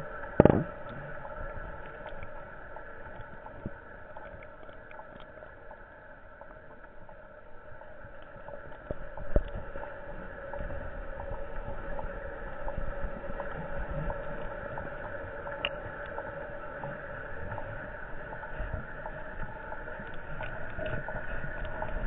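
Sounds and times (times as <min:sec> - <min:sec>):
bubbling: 0:00.0 - 0:22.0
underwater aeration hum: 0:00.0 - 0:22.0.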